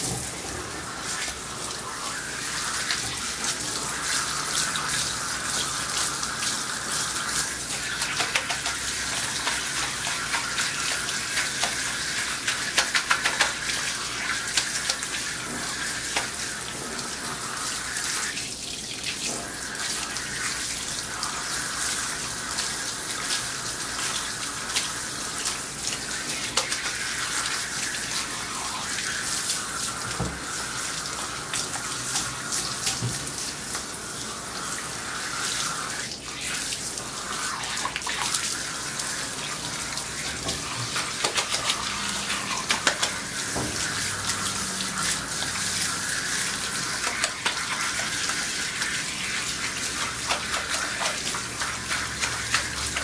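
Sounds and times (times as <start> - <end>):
water splashing and dripping: 0.0 - 53.0
water spraying onto dog: 0.0 - 53.0.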